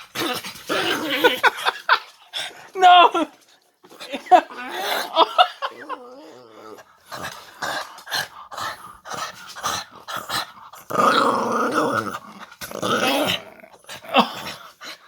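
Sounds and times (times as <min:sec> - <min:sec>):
dog play-growling: 0:00.0 - 0:01.6, 0:03.4 - 0:15.0.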